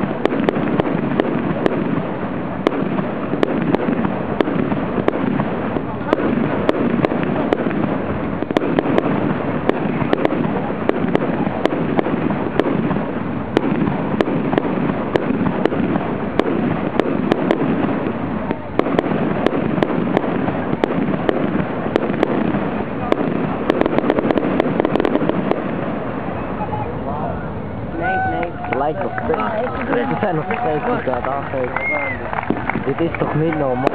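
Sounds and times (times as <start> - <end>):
continuous din: 0.0 - 33.9
fireworks bangs and crackles: 0.0 - 33.9.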